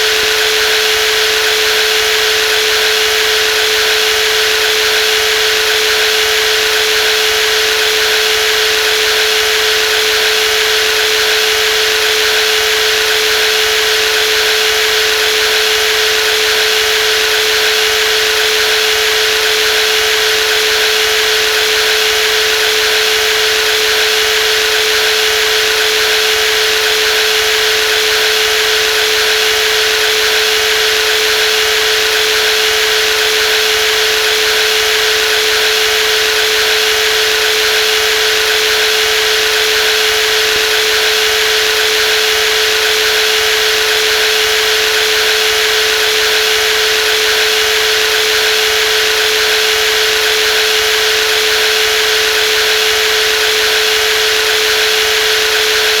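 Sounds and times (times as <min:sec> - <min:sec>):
jigsaw running: 0:00.1 - 0:56.0.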